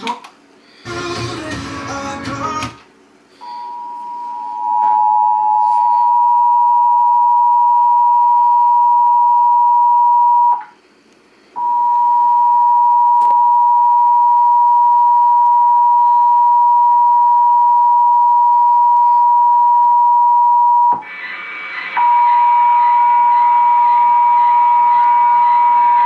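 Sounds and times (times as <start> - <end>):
two-tone alarm signal: 3.4 - 10.6, 11.6 - 26.0.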